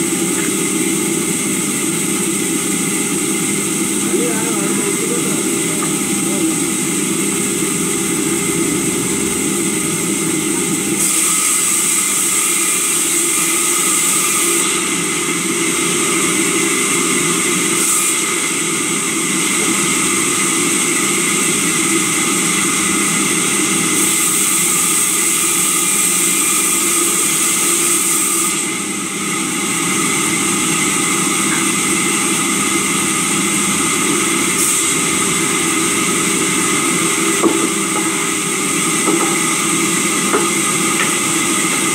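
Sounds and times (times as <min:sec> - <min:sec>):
sawmill saw cutting timber: 0:00.0 - 0:41.9.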